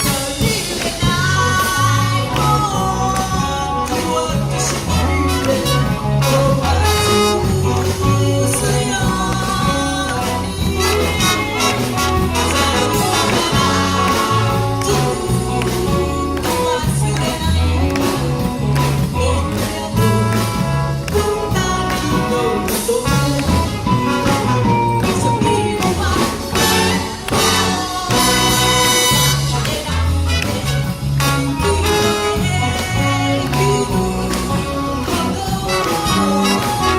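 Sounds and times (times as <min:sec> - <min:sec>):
bass line: 0:00.0 - 0:36.9
live jazz band playing: 0:00.0 - 0:36.9.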